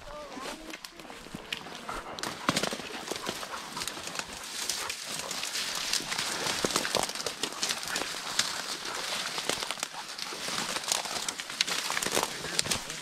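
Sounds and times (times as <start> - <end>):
footsteps through dry grass: 0.0 - 13.0.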